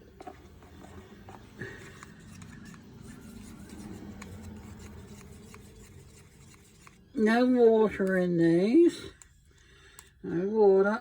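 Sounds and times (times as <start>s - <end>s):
plastic cups scraping and rubbing: 0.0s - 9.4s.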